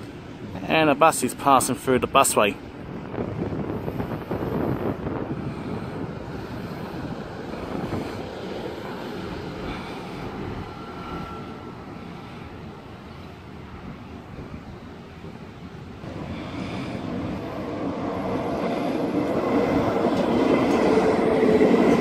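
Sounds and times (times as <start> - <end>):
bus driving past: 3.7 - 22.0.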